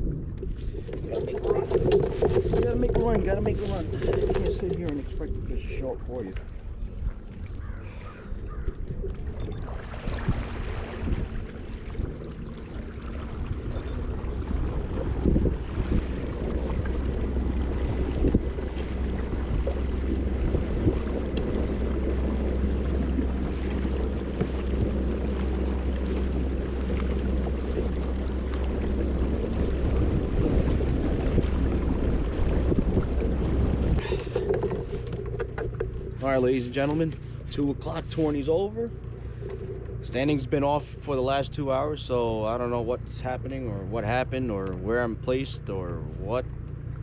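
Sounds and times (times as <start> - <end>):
wind buffeting microphone: 0.0 - 42.6
steady low hum: 0.0 - 47.0
water rushing past hull: 0.0 - 47.0.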